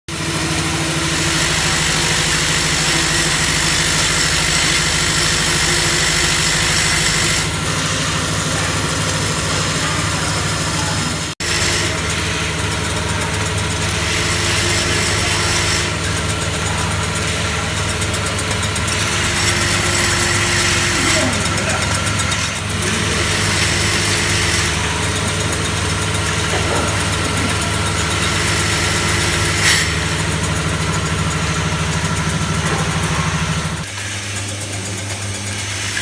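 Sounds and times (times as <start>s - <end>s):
machine humming and hissing: 0.1s - 36.0s.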